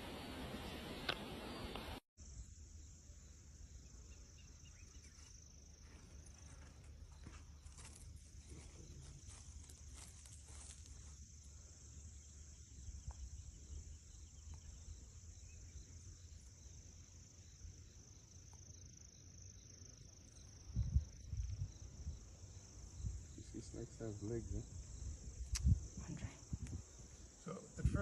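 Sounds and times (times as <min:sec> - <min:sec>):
insects chirring: 0:01.1 - 0:28.0.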